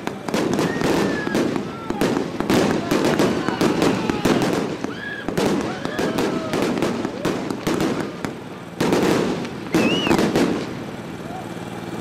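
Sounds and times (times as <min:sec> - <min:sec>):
fireworks launch pops and bursts: 0:00.0 - 0:12.0.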